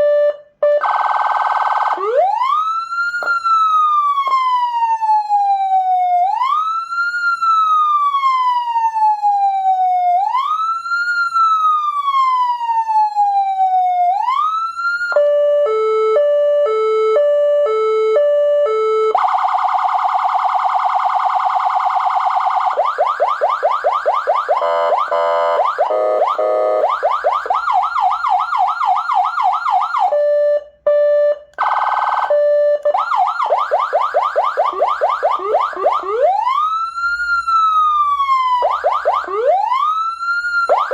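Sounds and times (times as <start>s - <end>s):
electronic siren: 0.0s - 40.9s.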